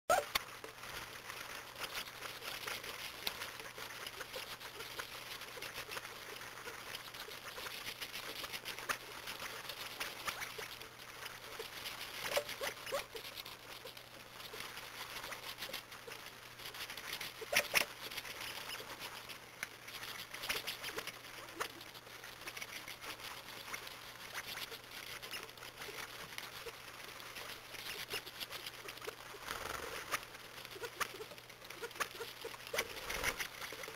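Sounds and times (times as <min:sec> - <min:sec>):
birds pecking and scratching in snow: 0:00.1 - 0:33.9.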